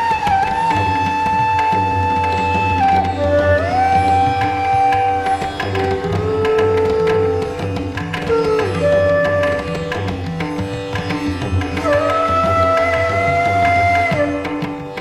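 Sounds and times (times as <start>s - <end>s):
sliding held melody notes: 0.0s - 15.0s.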